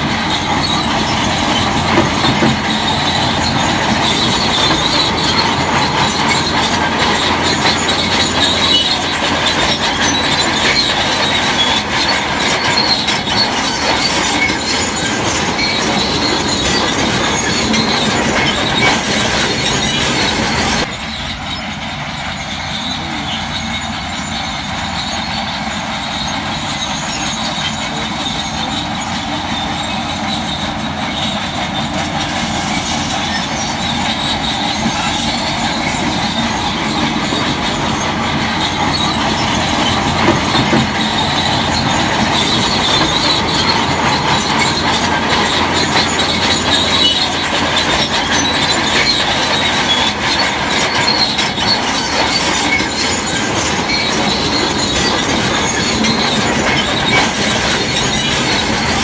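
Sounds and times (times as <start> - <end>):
bulldozer engine running: 0.0 - 59.0
steel tracks squealing and clanking: 0.0 - 59.0.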